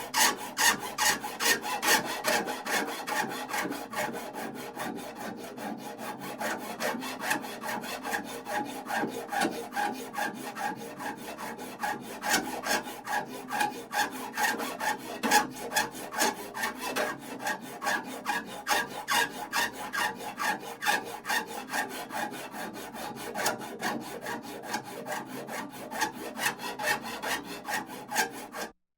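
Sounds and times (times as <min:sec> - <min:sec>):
hand file rasping across metal: 0:00.0 - 0:28.8.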